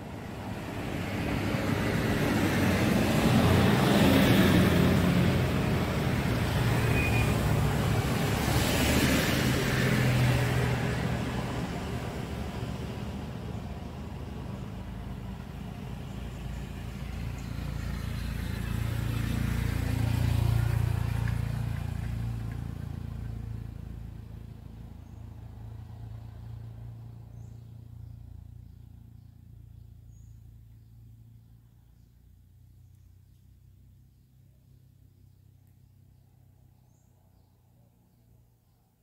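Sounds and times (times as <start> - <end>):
low traffic hum: 0.0 - 39.0
vehicles passing: 0.0 - 39.0.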